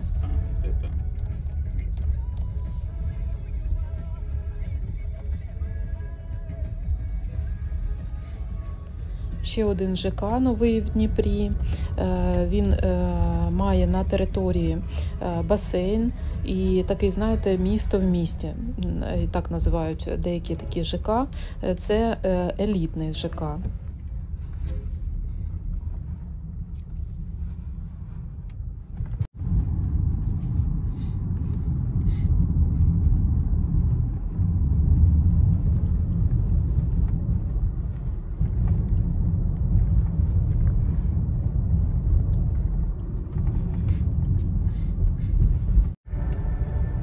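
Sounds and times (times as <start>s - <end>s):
steady low rumble: 0.0s - 47.0s.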